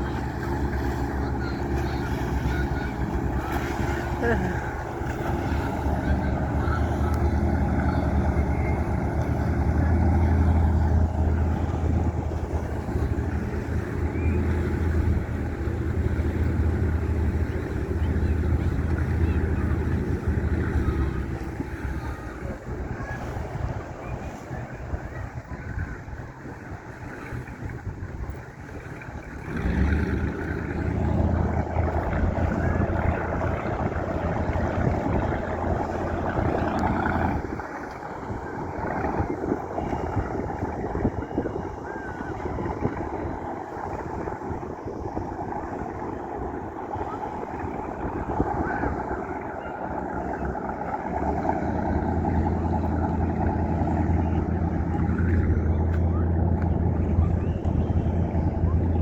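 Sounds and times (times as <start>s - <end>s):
boat engine rumble: 0.0s - 59.0s
wind on microphone: 0.0s - 59.0s.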